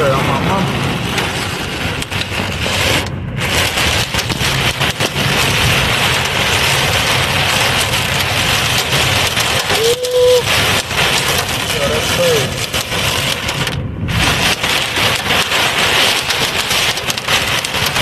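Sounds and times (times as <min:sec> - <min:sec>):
car engine and tyres on wet road: 0:00.0 - 0:18.0
heavy rain on car roof: 0:00.0 - 0:18.0.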